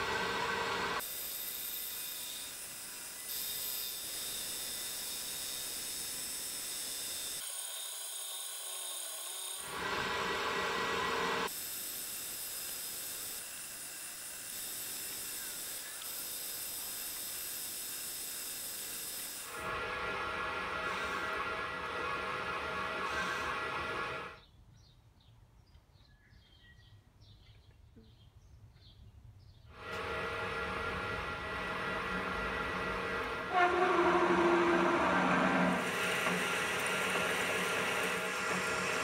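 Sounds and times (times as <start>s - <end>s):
hiss of lathe cutting: 0.0s - 24.3s, 29.8s - 39.0s
metal lathe motor whining: 0.0s - 24.4s, 29.8s - 39.0s.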